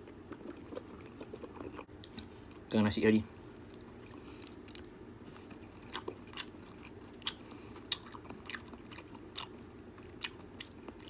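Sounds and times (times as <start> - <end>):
person chewing food: 0.0 - 2.7, 3.5 - 11.0
faint steady hum: 0.0 - 11.0.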